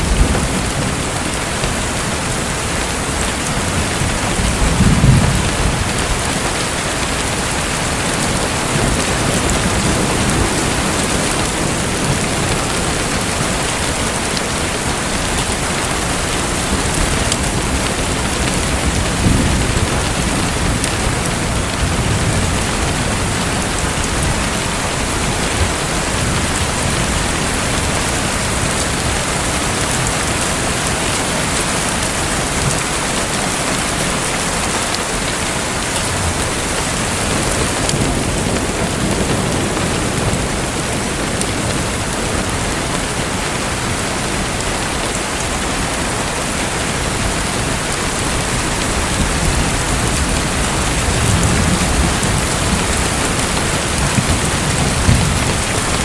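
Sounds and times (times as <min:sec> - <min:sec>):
rushing splashing water: 0:00.0 - 0:56.0.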